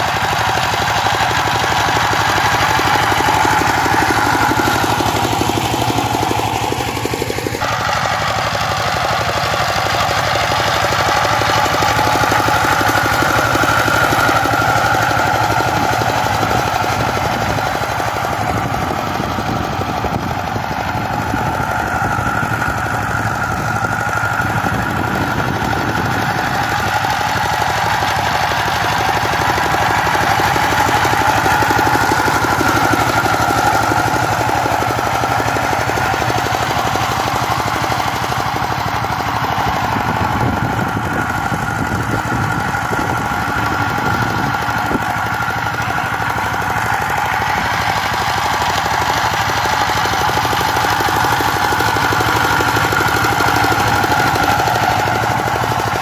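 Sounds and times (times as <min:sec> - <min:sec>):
power tiller diesel engine running: 0:00.0 - 0:56.0
rotary tiller churning dry soil: 0:00.0 - 0:56.0.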